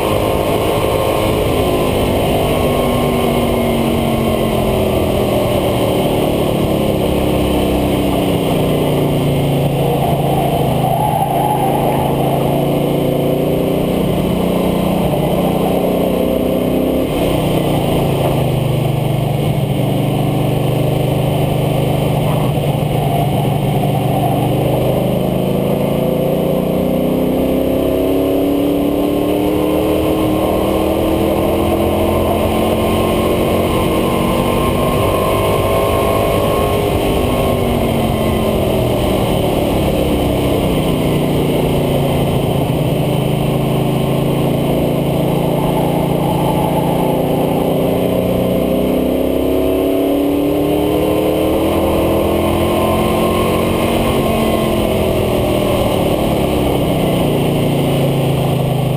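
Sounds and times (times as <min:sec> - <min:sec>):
car engine accelerating: 0:00.0 - 0:58.9
wind and road noise: 0:00.0 - 0:58.9.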